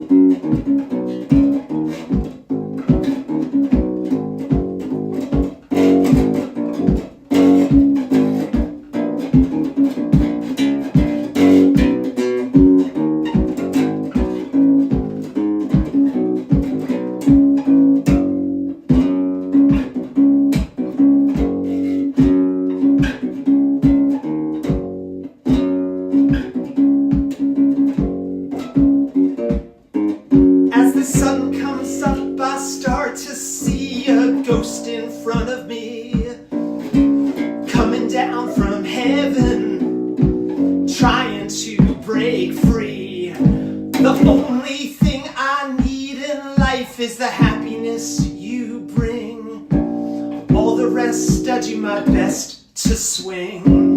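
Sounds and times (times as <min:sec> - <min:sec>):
bass guitar plucked notes: 0:00.0 - 0:52.5, 0:53.6 - 0:53.9.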